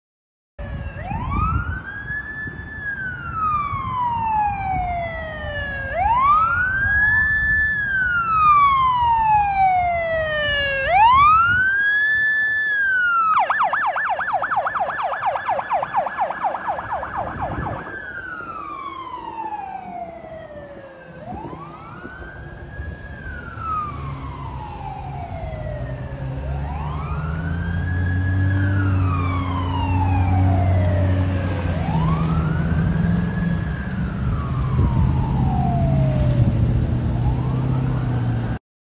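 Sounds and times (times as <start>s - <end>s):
fire engine siren wailing: 0.6s - 38.6s
low engine and traffic rumble: 0.6s - 38.6s
siren yelp: 0.6s - 38.6s.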